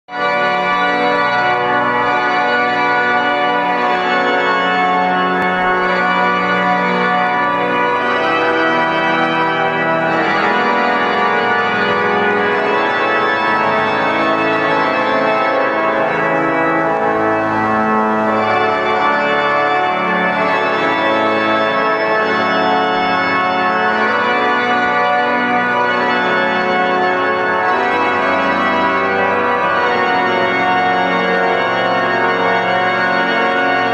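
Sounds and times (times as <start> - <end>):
pipe organ playing chords: 0.1 - 33.9.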